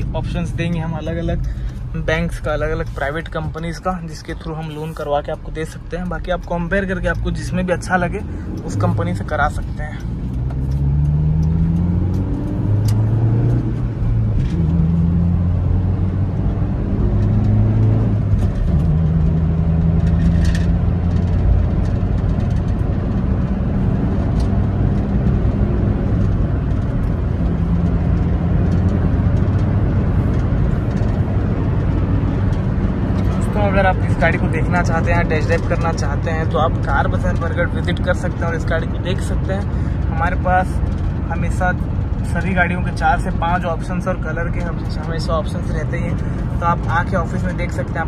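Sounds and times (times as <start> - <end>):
car engine at highway speed: 0.0 - 48.0
tyre and road noise: 0.0 - 48.0.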